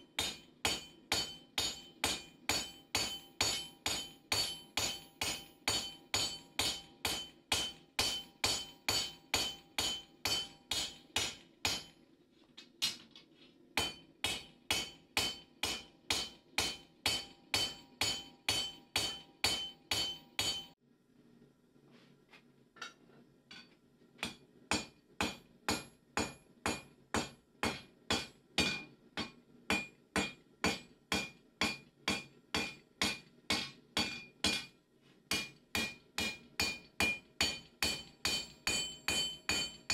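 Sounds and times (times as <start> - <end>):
hammer striking blade on anvil: 0.2 - 12.0, 13.8 - 20.8, 23.6 - 39.9.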